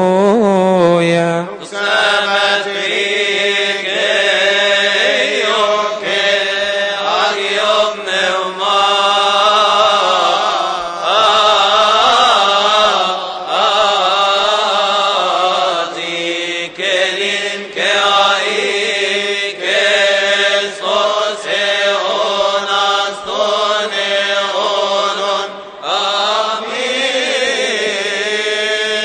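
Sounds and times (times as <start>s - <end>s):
men chanting a hymn: 1.6s - 29.0s.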